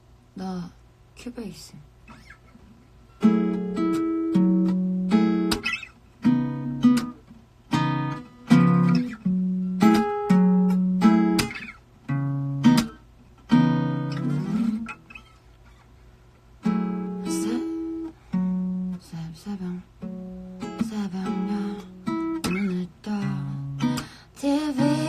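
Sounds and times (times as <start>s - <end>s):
acoustic guitar strumming: 2.1s - 15.8s, 16.6s - 25.0s.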